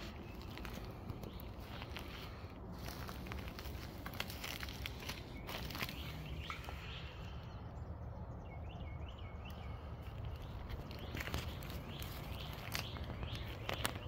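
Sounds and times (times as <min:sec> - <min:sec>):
footsteps on wood chips: 0:00.0 - 0:07.3, 0:10.0 - 0:14.0
bird chirping: 0:00.0 - 0:14.0.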